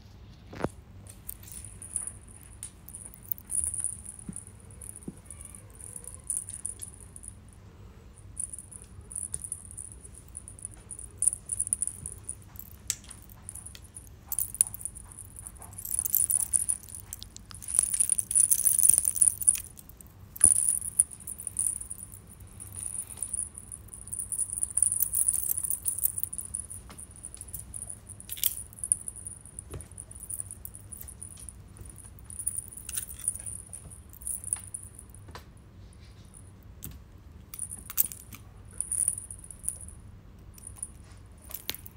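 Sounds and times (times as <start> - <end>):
small bells jingling: 1.1 - 7.6, 8.2 - 35.2, 37.5 - 41.9.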